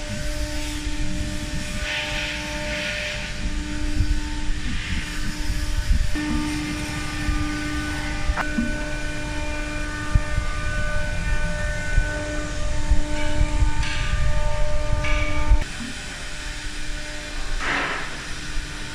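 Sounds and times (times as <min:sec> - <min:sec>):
cnc router machinery running: 0:00.0 - 0:18.9.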